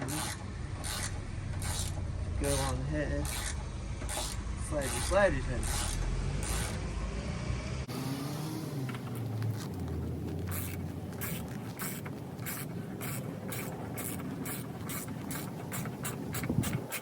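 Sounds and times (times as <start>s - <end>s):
hand ratchet rasping: 0.0s - 6.9s, 8.9s - 17.0s.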